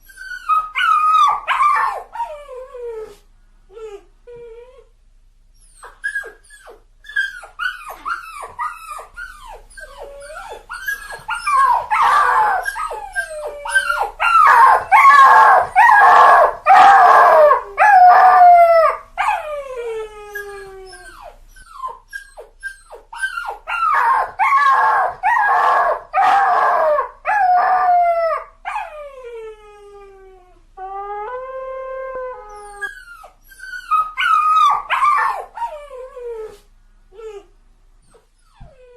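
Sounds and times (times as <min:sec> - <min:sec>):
dog whimpering and howling: 0:00.0 - 0:03.2, 0:05.6 - 0:36.6, 0:38.1 - 0:38.9.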